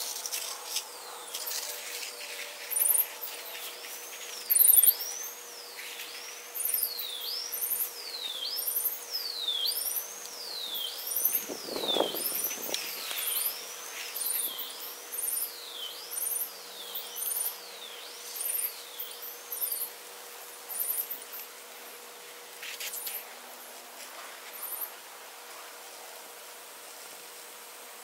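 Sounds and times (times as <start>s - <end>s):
light steady hiss: 0.0s - 28.0s.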